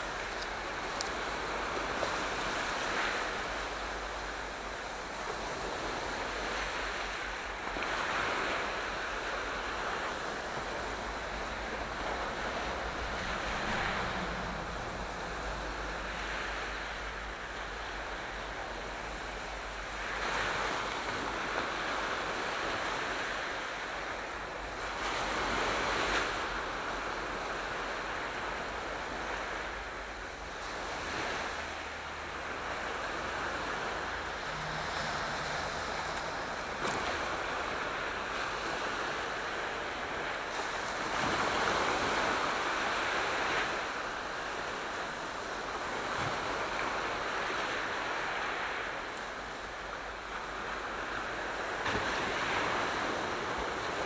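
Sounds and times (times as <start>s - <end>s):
sea waves washing ashore: 0.0s - 54.0s.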